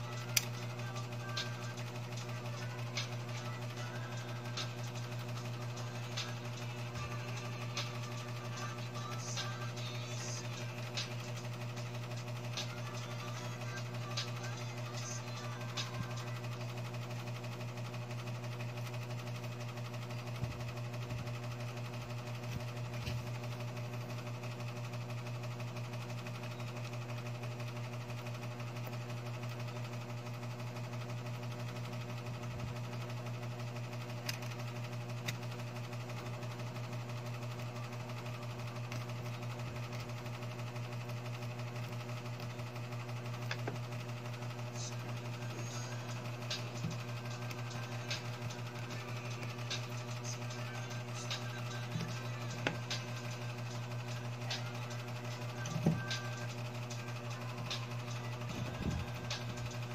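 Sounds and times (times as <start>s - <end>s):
electric motor hum: 0.0s - 59.9s.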